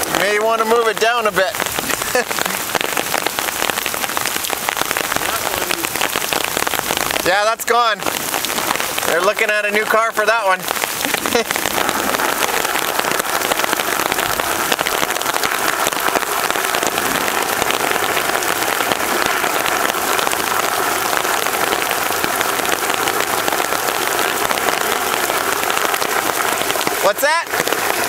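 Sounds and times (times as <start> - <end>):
heavy rain on pavement: 0.0 - 28.0.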